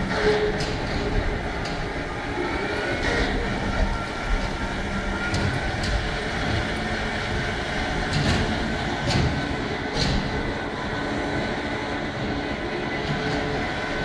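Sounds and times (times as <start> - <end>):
cart rolling rumble: 0.0 - 14.0.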